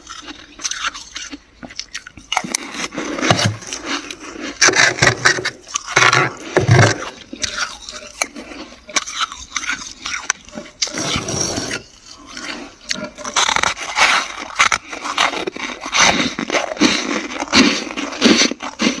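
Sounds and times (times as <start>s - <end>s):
frost crunching: 0.0s - 19.0s.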